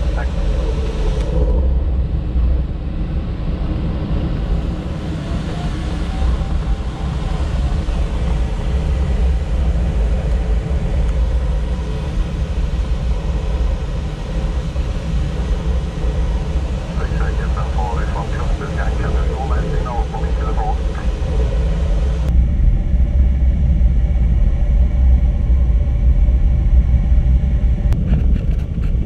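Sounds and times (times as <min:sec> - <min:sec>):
airflow rushing in cockpit: 0:00.0 - 0:29.0
deep rumble: 0:00.0 - 0:29.0.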